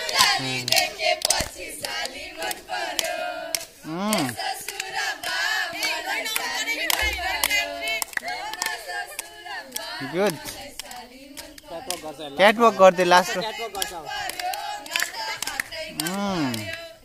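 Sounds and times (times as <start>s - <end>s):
hand claps: 0.0s - 16.9s
children singing and shouting: 0.0s - 17.0s.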